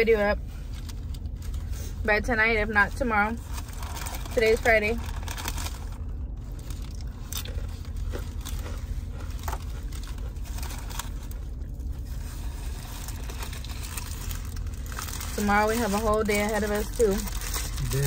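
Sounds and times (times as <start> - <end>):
steady low hum: 0.0 - 18.0
food wrapper crinkling: 3.4 - 18.0.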